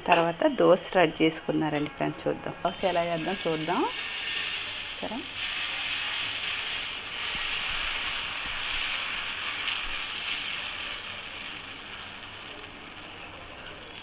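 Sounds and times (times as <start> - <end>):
batter sizzling on hot pan: 2.7 - 14.0.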